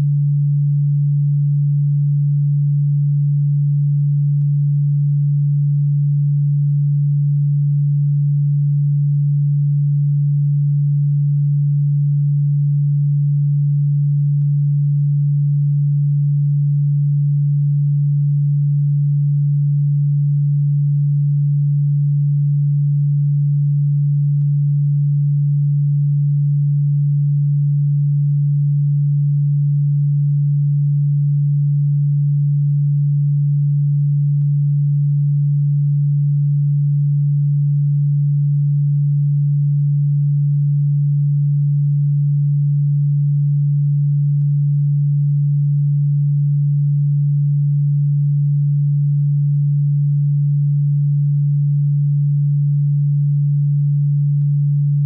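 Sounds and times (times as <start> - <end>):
low electronic pure tone: 0.0 - 55.0.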